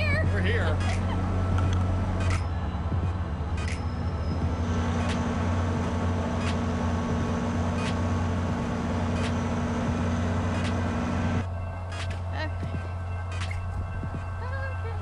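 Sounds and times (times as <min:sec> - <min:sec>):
locomotive engine idling drone: 0:00.0 - 0:15.0.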